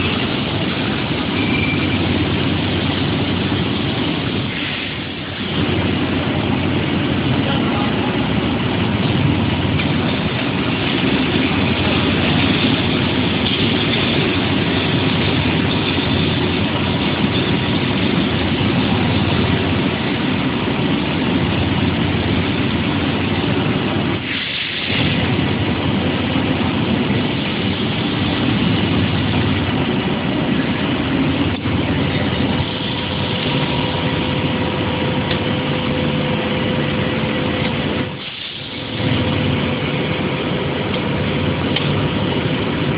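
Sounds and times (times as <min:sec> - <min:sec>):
welding arc hiss and hum: 0:00.0 - 0:42.9.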